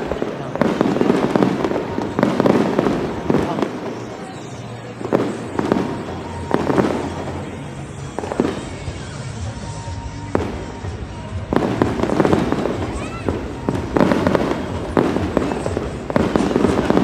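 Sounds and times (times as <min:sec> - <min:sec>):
fireworks booming: 0:00.0 - 0:17.0
music playing: 0:00.0 - 0:17.0.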